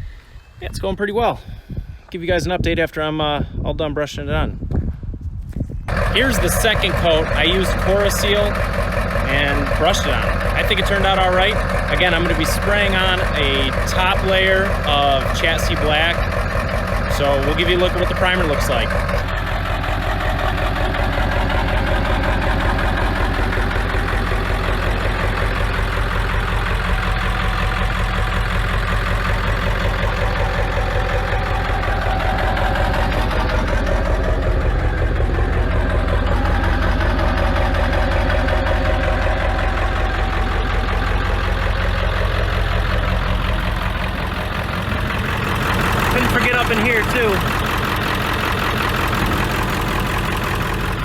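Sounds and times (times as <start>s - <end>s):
engine idling: 5.9s - 51.0s.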